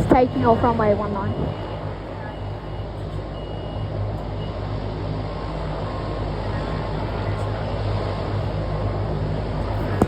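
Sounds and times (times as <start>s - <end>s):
low car engine hum: 0.0s - 10.0s.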